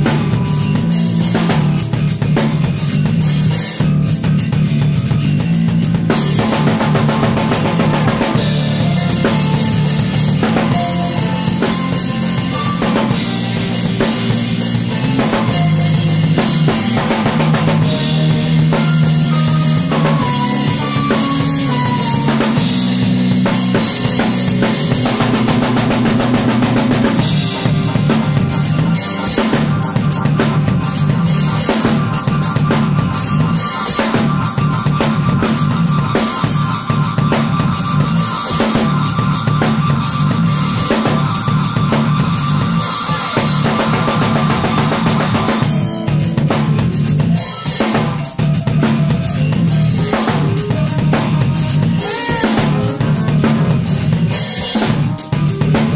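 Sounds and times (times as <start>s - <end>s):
drum kit playing: 0.0s - 55.9s
electric bass line: 0.0s - 55.9s.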